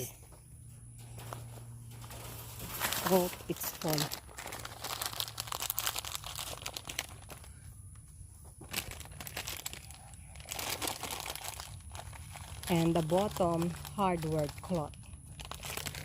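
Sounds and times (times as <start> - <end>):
crinkling handling noise: 0.0 - 16.0.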